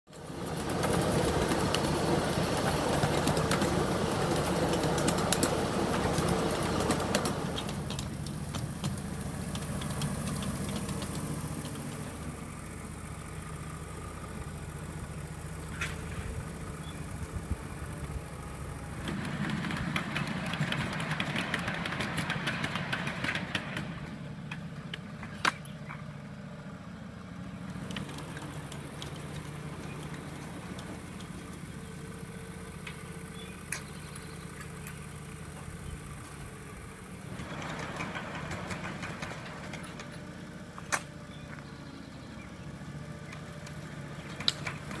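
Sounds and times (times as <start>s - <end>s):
model railroad cars rolling: 0.1s - 45.0s
small engine idling: 0.1s - 45.0s.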